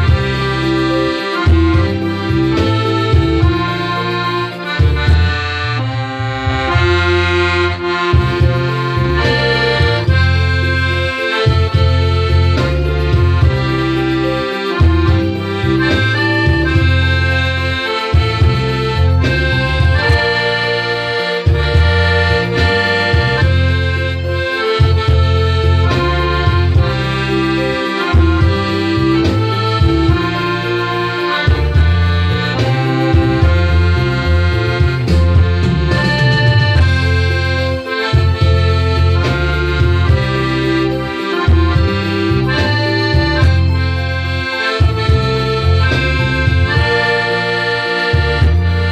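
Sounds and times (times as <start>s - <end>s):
accordion playing a tune: 0.0s - 48.9s.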